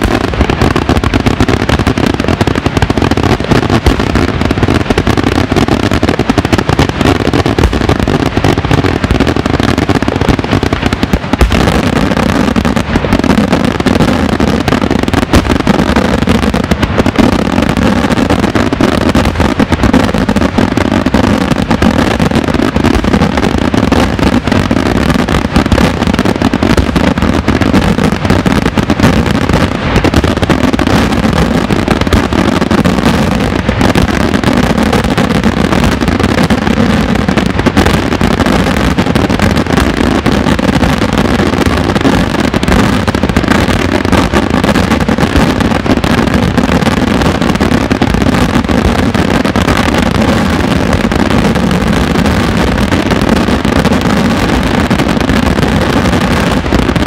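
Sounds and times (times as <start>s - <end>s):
fireworks banging and crackling: 0.0s - 57.0s.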